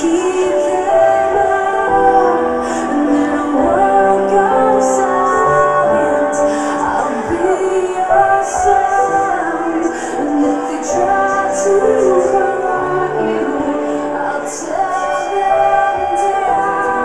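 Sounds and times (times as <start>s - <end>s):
female vocal line: 0.0s - 17.0s.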